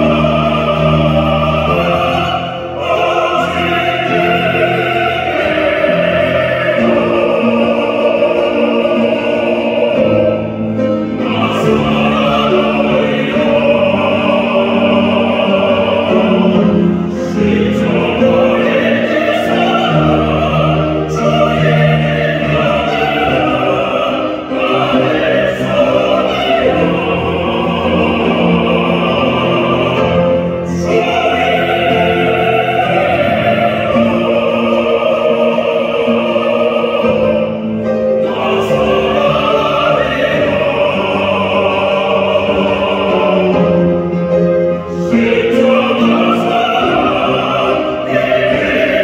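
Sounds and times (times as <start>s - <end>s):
vocal quartet singing in harmony: 0.0s - 49.0s.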